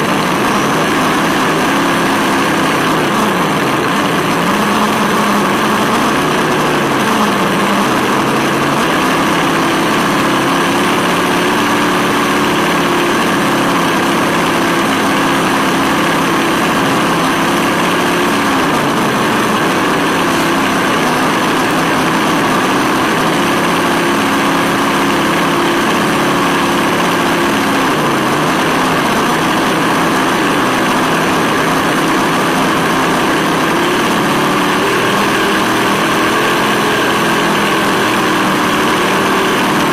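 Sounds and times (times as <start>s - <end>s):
simulated engine sound from speaker: 0.0s - 39.9s.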